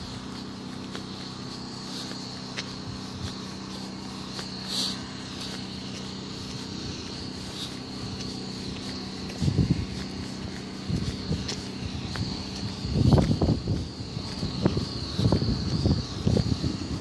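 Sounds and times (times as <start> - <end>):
footsteps on asphalt: 0.0 - 17.0
steady low hum: 0.0 - 17.0.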